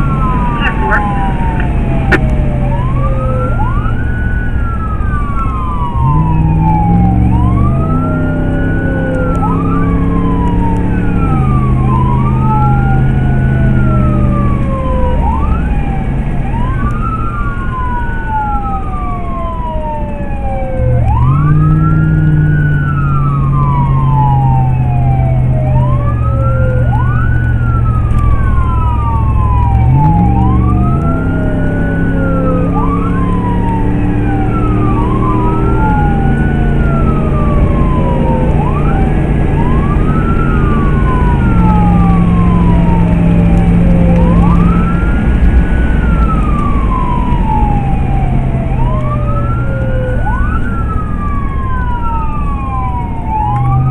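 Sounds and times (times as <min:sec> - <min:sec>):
electronic siren wailing: 0:00.0 - 0:53.9.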